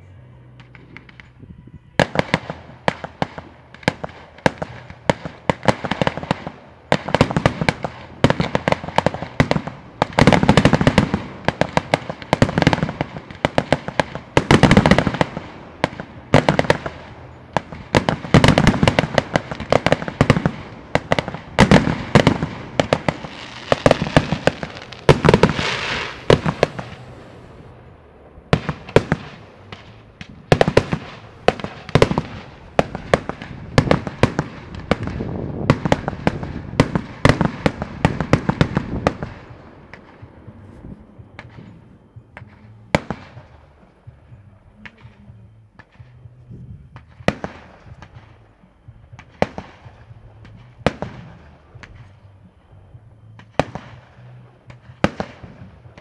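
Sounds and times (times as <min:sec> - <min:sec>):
fireworks crackling: 0:00.0 - 0:56.0
fireworks bursting with bangs: 0:00.2 - 0:56.0.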